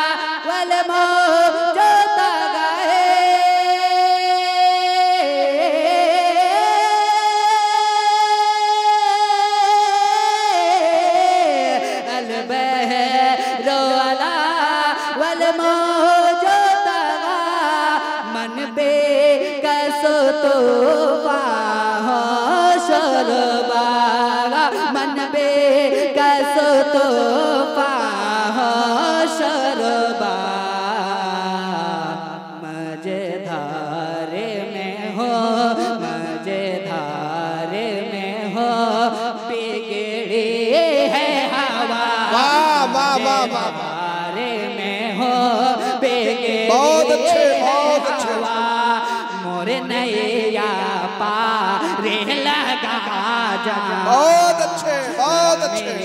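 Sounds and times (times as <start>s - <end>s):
man singing into a microphone: 0.0s - 56.0s.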